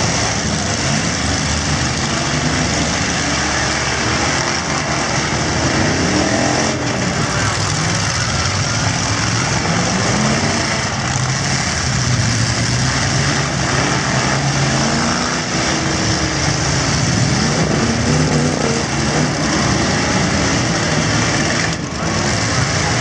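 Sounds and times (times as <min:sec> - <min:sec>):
truck engines revving: 0:00.0 - 0:23.0.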